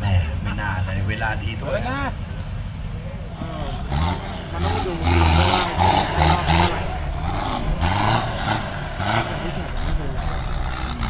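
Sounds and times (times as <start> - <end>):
off-road engines revving: 0.0 - 11.0.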